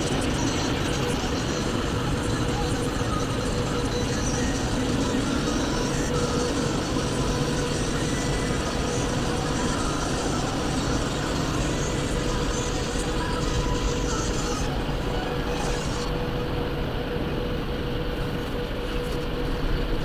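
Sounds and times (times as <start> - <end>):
car wash machinery rushing: 0.0 - 17.6
faint steady whine: 0.0 - 20.0.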